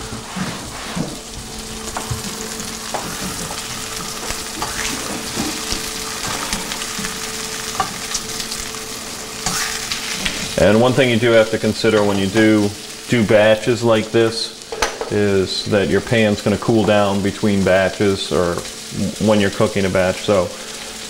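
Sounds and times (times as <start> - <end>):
cutlets frying in hot oil: 0.1 - 21.0.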